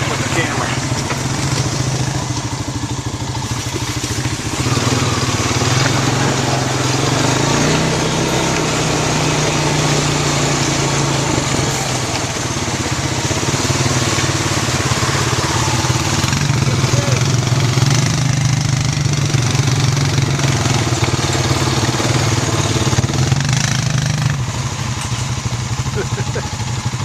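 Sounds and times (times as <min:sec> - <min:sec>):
quad bike engine running: 0:00.0 - 0:27.0.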